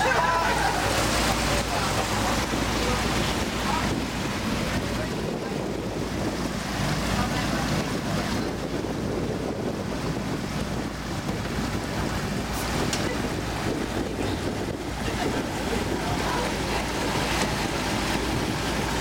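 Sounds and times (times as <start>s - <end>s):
boat engine drone: 0.0s - 19.0s
water rushing from wake: 0.0s - 19.0s
wind buffeting microphone: 0.0s - 19.0s.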